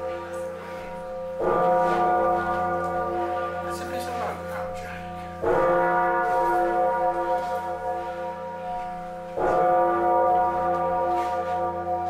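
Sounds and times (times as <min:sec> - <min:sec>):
large bell clanging: 0:00.0 - 0:12.0.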